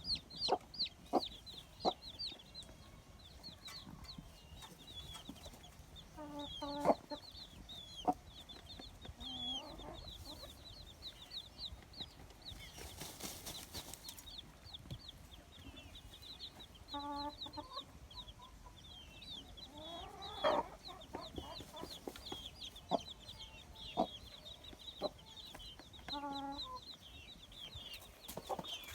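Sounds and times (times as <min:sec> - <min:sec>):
chickens clucking: 0:00.0 - 0:28.9
chicks chirping: 0:00.0 - 0:28.9.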